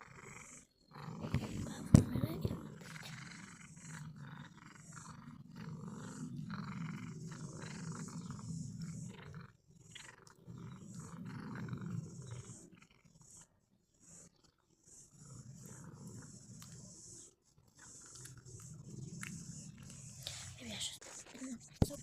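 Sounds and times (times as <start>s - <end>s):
cat growling: 0.0s - 22.0s.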